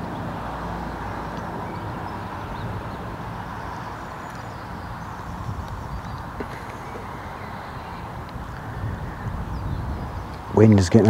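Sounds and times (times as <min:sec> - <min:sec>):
steady outdoor hum: 0:00.0 - 0:11.0
wind buffeting microphone: 0:00.0 - 0:11.0.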